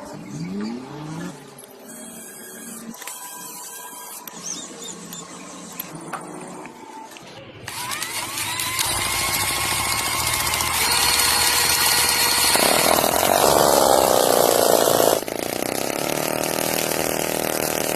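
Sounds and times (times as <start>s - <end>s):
small engine high-pitched whine: 0.0s - 17.9s.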